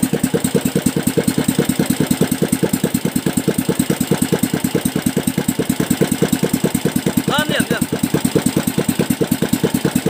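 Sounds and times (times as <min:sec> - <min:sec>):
small petrol engine idling: 0:00.0 - 0:10.0.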